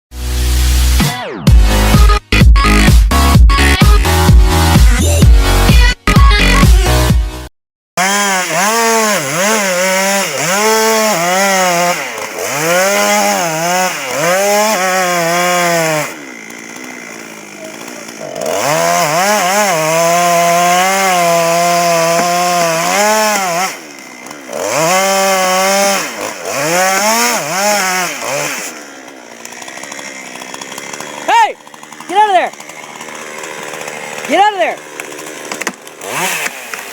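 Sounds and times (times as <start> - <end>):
chainsaw cutting and revving: 0.2 - 36.9.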